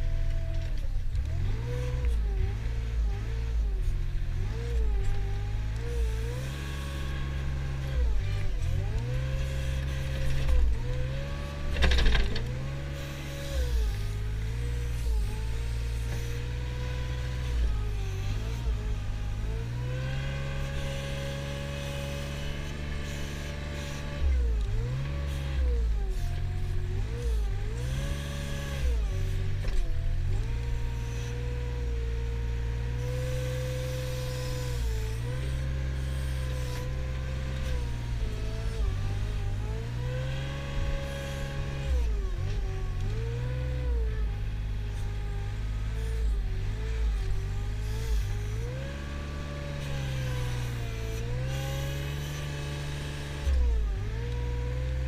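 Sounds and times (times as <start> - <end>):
wheel loader engine revving: 0.0 - 55.0.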